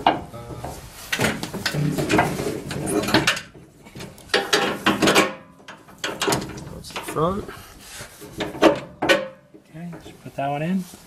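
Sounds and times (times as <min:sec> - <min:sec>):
metal parts clanking and scraping: 0:01.1 - 0:10.1.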